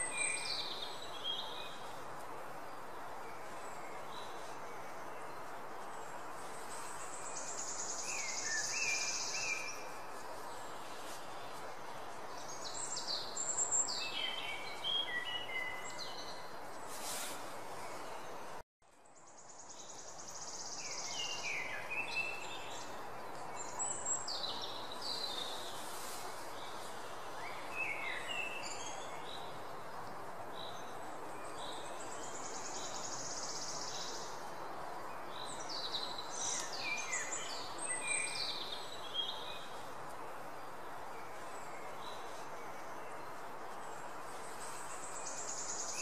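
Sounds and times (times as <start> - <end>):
background hiss: 0.0 - 46.0.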